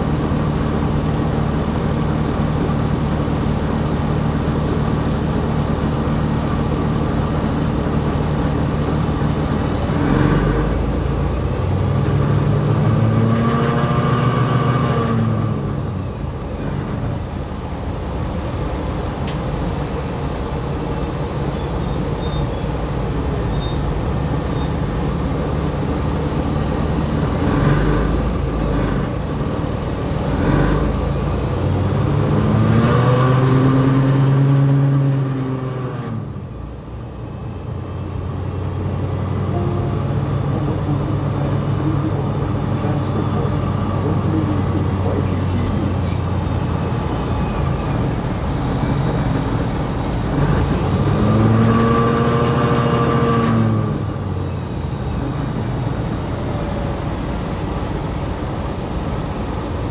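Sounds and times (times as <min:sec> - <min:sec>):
bus diesel engine: 0:00.0 - 0:59.9
road and drivetrain rumble: 0:00.0 - 0:59.9.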